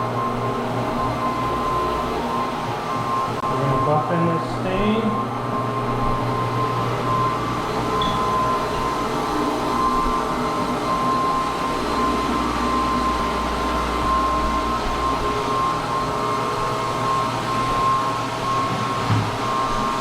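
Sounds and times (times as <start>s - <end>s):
floor buffer whining: 0.0s - 20.0s.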